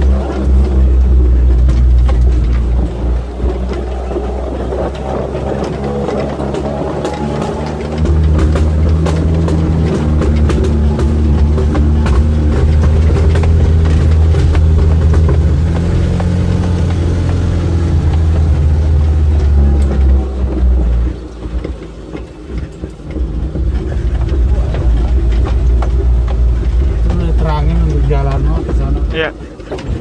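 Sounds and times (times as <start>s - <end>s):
knocks and rattles: 0.0s - 30.0s
off-road vehicle engine running: 0.0s - 30.0s.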